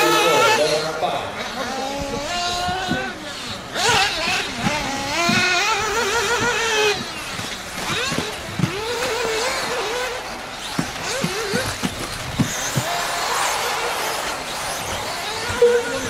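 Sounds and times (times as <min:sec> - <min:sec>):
electric rc car motors whining: 0:00.0 - 0:16.0.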